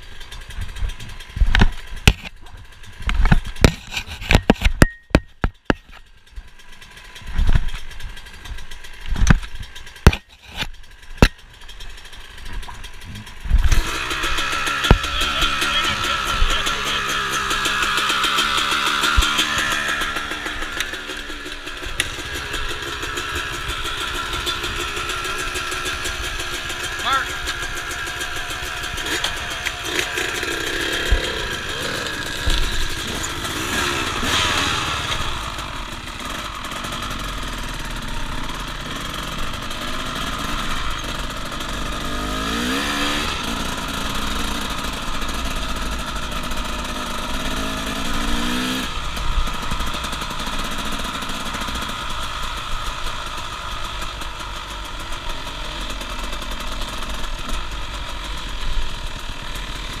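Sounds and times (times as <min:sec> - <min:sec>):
dirt bike engine accelerating: 0:00.0 - 1:00.0.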